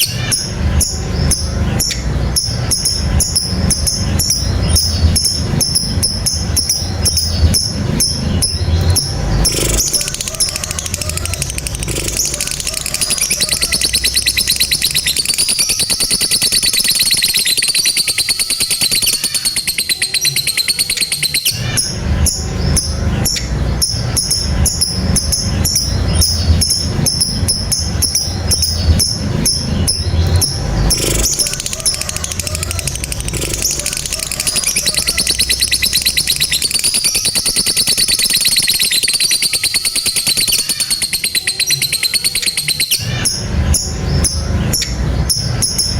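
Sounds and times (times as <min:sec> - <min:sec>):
lovebird chattering trill: 0:00.0 - 0:45.9.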